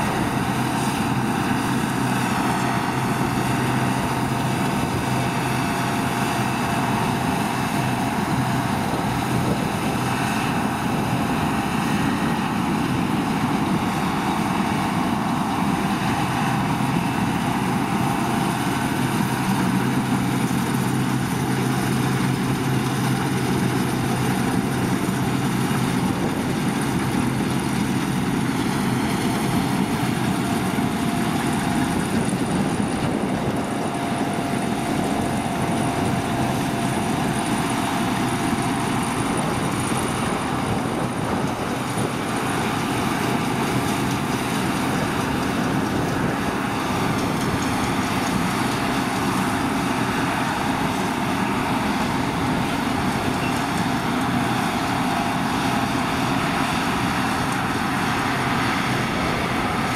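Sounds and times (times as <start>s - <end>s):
combine harvester humming: 0.0s - 59.9s.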